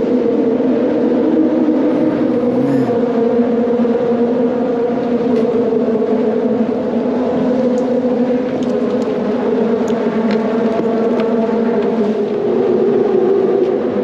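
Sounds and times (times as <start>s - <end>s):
loud mechanical drone: 0.0s - 14.0s.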